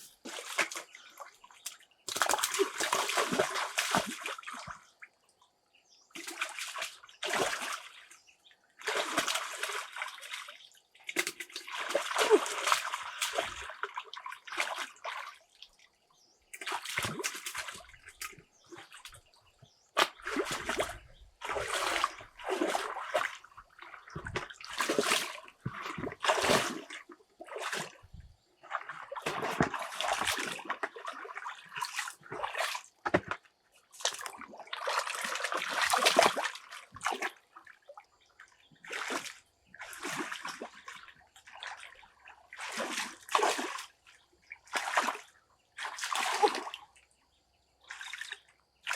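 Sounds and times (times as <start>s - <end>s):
water splashing and sloshing: 0.0s - 48.9s.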